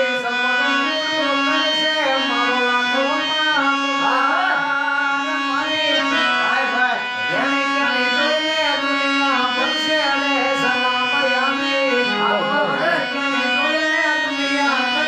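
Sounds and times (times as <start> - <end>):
harmonium playing chords: 0.0 - 15.0
man singing: 0.0 - 15.0.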